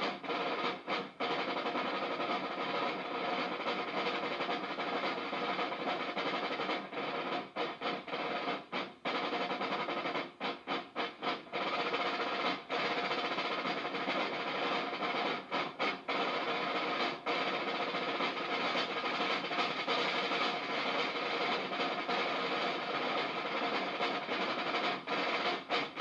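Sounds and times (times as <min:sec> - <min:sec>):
snare drums playing together: 0:00.0 - 0:26.0.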